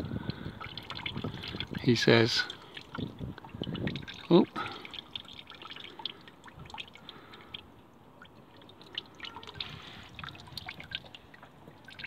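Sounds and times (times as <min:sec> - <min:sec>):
coolant dripping into a bowl: 0:00.0 - 0:12.0.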